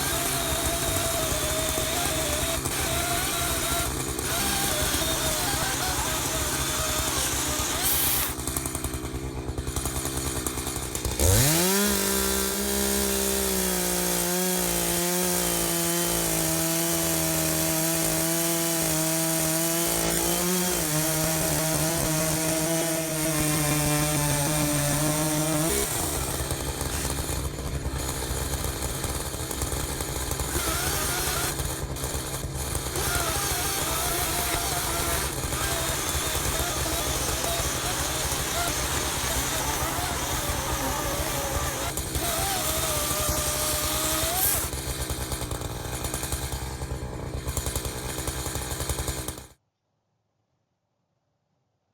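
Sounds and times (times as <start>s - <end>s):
rough chainsaw idling noise: 0.0s - 49.5s
chainsaw cutting log: 0.0s - 49.6s.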